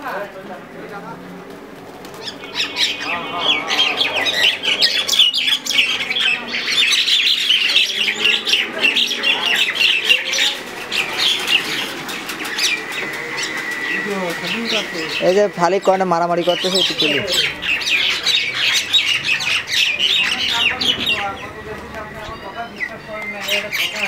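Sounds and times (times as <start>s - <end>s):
birds squawking harshly: 0.6s - 24.0s.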